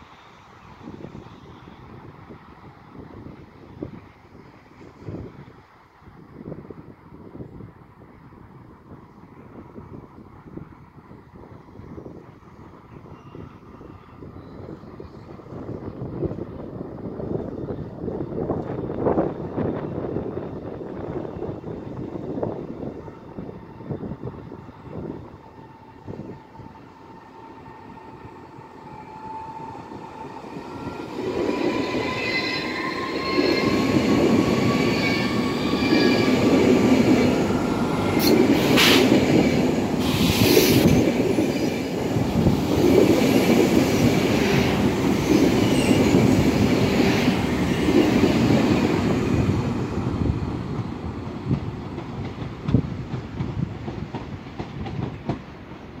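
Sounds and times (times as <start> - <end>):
electric train whine: 0.0 - 56.0
train wheels rumbling on rail: 0.0 - 56.0.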